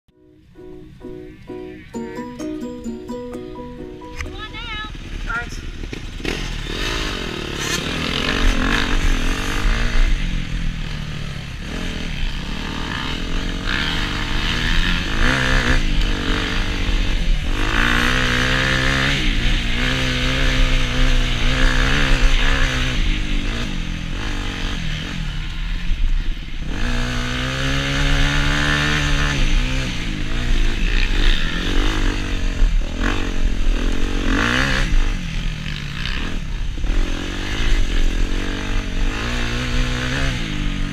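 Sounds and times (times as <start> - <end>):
constant noisy rush: 3.8 - 40.9
dirt bike engine accelerating: 4.9 - 40.9.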